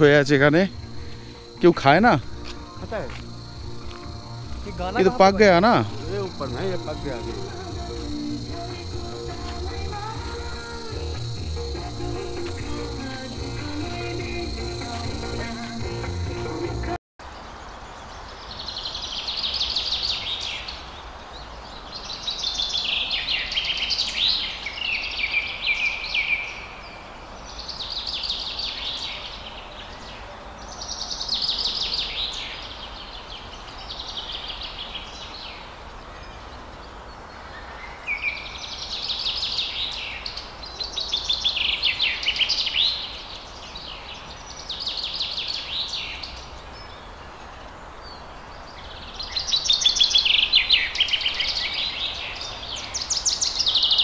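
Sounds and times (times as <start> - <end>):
faint outdoor background: 0.0 - 54.0.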